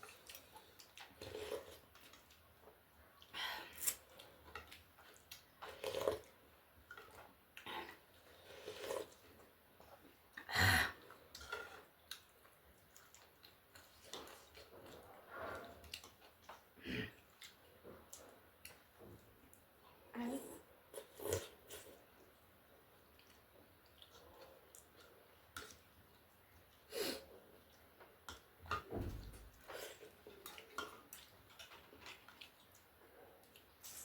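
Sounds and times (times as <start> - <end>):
person chewing food: 0.0 - 19.7, 20.9 - 34.0.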